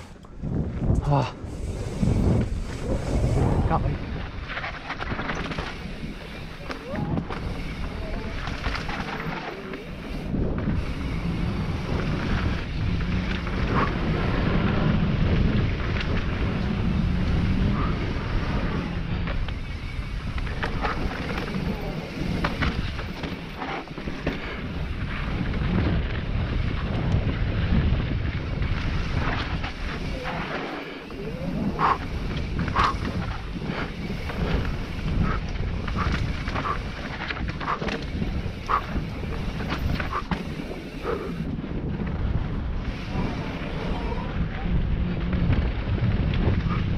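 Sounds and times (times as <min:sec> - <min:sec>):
bike tyres rumbling on dirt: 0:00.0 - 0:46.9
wind buffeting microphone: 0:00.0 - 0:46.9.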